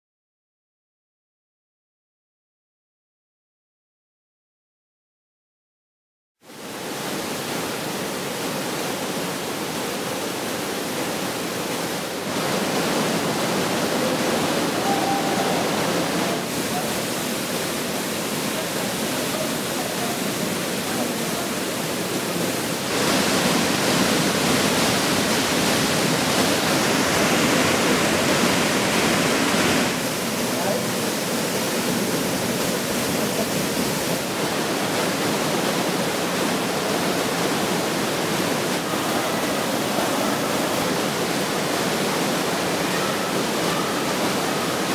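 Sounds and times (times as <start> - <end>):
waterfall rushing: 6.5 - 44.9.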